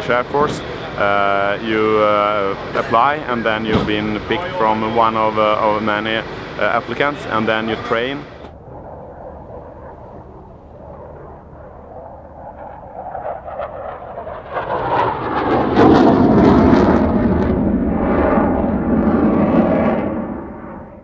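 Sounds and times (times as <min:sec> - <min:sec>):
jet engine roaring with crackling: 0:00.0 - 0:21.0.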